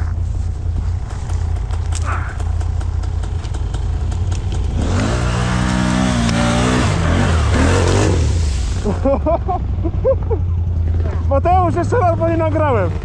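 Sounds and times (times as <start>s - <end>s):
quad bike engine revving: 1.0s - 13.0s.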